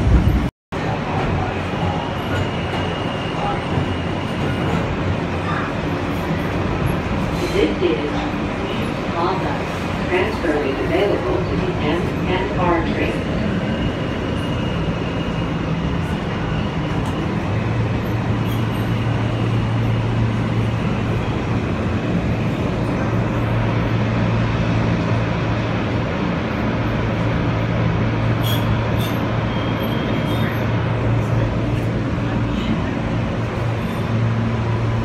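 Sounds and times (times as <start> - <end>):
subway wheels rumbling on rail: 0.0 - 35.0.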